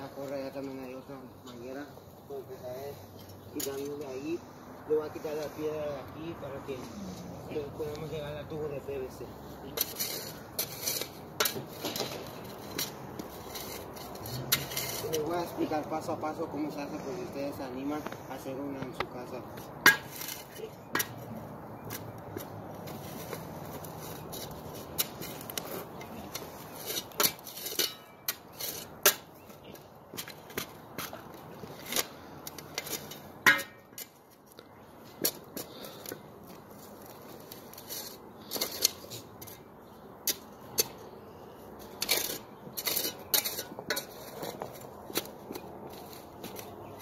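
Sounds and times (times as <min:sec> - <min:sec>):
spade scraping gravelly soil: 0:00.0 - 0:30.4, 0:36.7 - 0:47.0.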